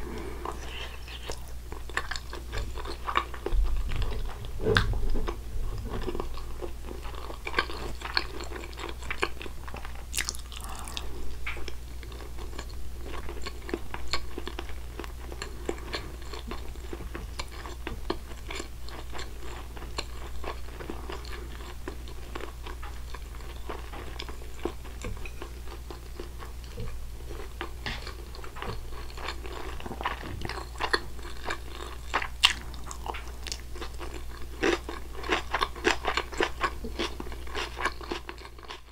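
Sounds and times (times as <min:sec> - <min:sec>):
chewing rice: 0:00.0 - 0:38.9.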